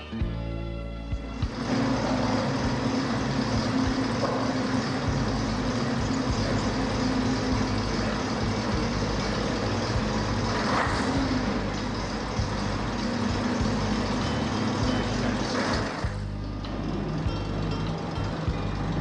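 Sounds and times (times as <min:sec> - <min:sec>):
bus engine idling: 0:00.0 - 0:19.0.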